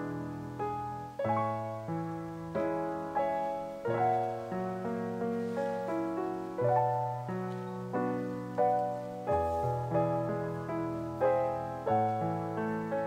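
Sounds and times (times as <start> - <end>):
slow gentle solo piano: 0.0 - 13.0.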